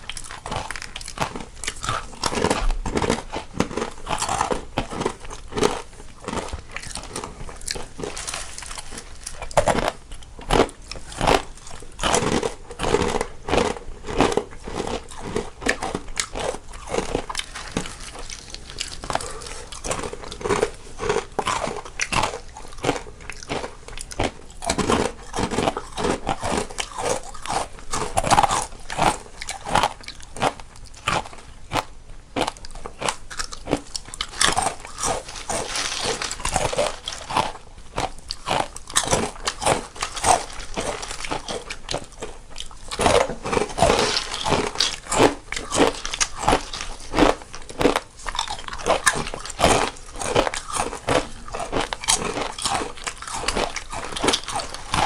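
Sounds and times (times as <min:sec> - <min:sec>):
people chewing crisp snacks: 0:00.0 - 0:55.0.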